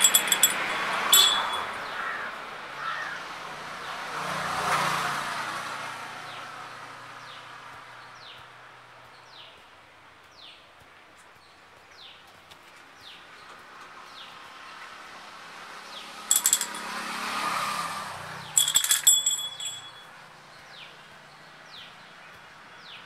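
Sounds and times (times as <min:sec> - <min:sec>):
vehicle passing: 0:00.0 - 0:09.8, 0:13.2 - 0:23.0.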